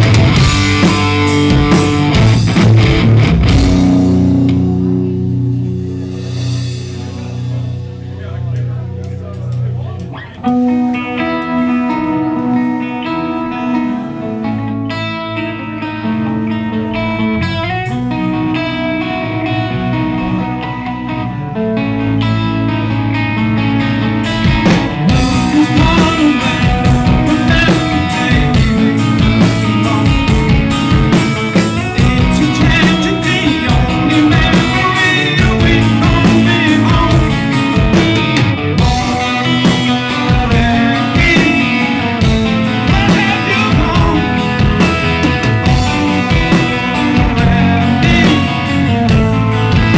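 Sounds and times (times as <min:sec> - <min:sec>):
drums: 0:00.0 - 0:49.9
guitar held notes: 0:00.0 - 0:49.9
live rock band playing: 0:00.0 - 0:49.9.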